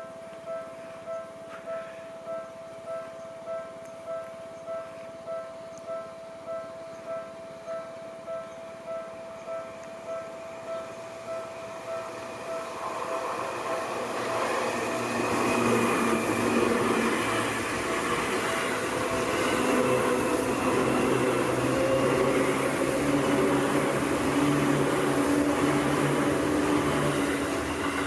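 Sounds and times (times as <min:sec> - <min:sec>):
electric train passing: 0:00.0 - 0:28.0
train motor whine: 0:05.4 - 0:28.0.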